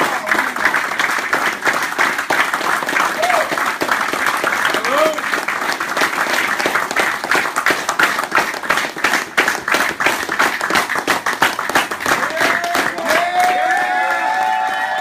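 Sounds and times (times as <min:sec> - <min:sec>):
group applauding: 0:00.0 - 0:15.0.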